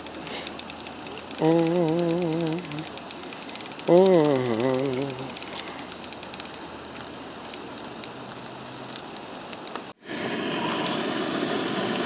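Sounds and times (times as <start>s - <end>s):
faint ticks: 0.0s - 9.9s
stove burner hissing: 0.0s - 12.0s.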